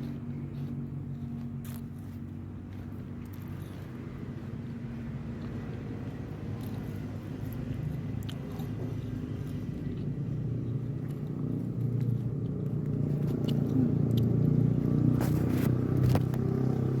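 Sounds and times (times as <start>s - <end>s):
motor engine low rumble: 0.0s - 17.0s.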